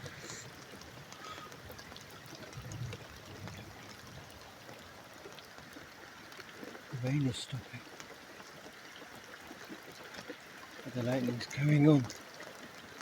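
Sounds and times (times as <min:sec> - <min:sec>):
scattered water drips: 0:00.0 - 0:13.0
water trickling and pouring: 0:00.0 - 0:13.0.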